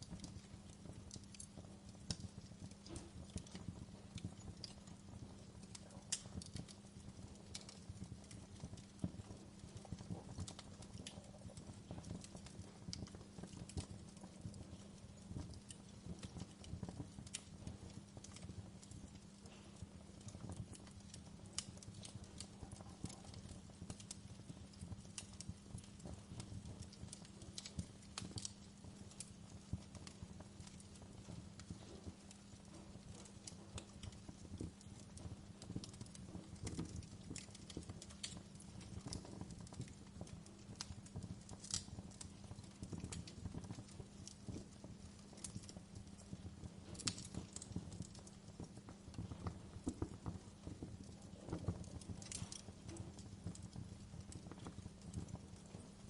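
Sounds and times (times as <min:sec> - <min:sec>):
low steady fire rumble: 0:00.0 - 0:56.0
wood fire crackling and popping: 0:00.0 - 0:56.0.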